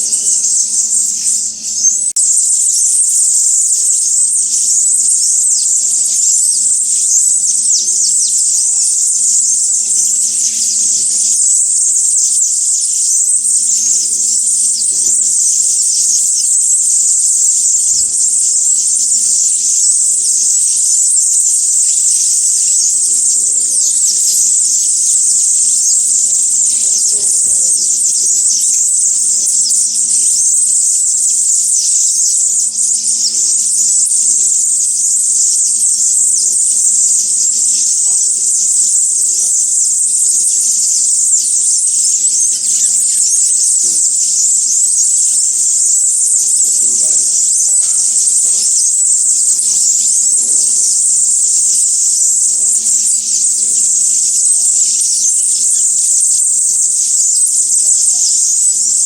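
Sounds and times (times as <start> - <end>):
shrill insect drone: 0.0 - 59.0.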